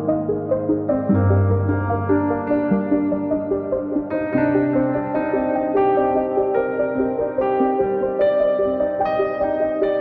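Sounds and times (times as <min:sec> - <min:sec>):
piano notes over sustained chords: 0:00.0 - 0:10.0.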